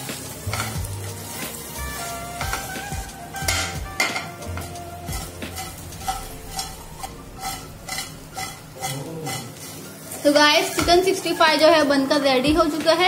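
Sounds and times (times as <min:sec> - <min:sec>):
chicken sizzling in oil: 0:00.0 - 0:13.0
spatula scraping a pan: 0:00.4 - 0:11.3.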